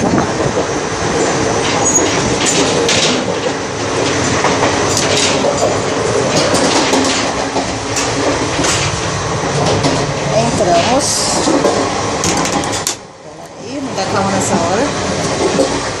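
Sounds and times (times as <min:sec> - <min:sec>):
train clacks: 0:00.0 - 0:16.0
train rumble and rattle: 0:00.0 - 0:16.0.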